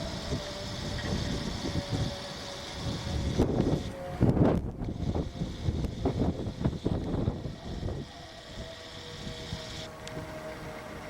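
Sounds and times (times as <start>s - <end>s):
faint outdoor warning siren: 0.0s - 11.0s
wind buffeting microphone: 0.0s - 11.0s.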